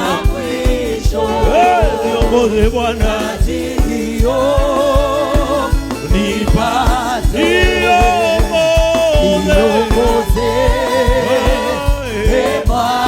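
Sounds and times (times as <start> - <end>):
band accompaniment: 0.0 - 13.0
kick drum beat: 0.0 - 13.0
voices singing gospel: 0.0 - 13.0.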